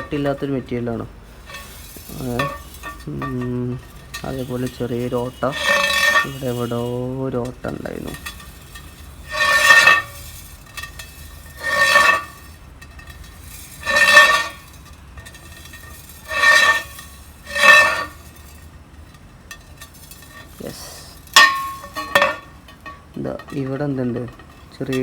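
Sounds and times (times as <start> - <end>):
metal scraping and clinking: 0.0 - 25.0.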